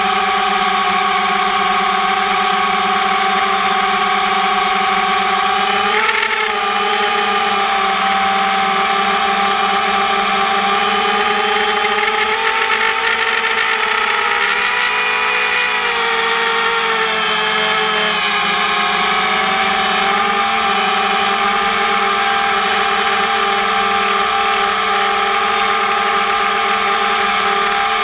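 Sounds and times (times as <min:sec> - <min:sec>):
drone motors whining: 0:00.0 - 0:28.0.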